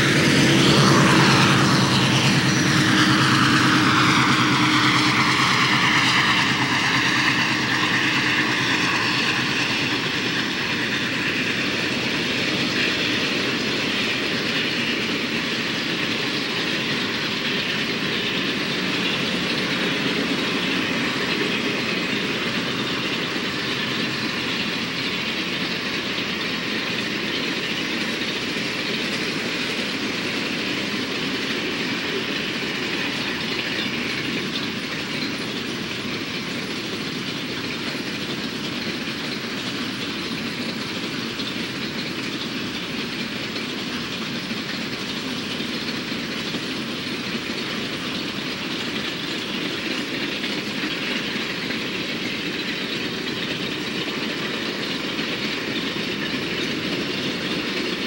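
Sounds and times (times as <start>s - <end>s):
diesel locomotive passing: 0.0s - 58.0s.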